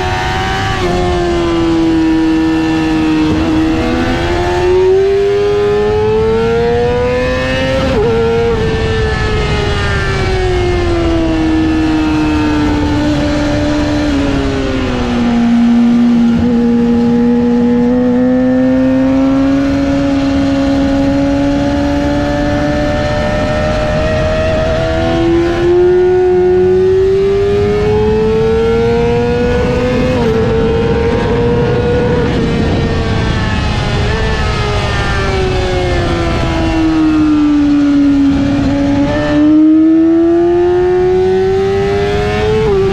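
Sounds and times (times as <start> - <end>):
sport bike engine revving: 0.0 - 42.9
wind rush: 0.0 - 42.9.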